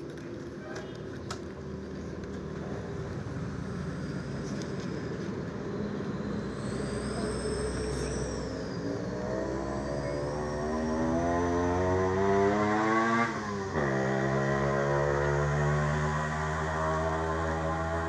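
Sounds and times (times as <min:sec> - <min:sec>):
motor vehicle engine running: 0:00.0 - 0:18.0.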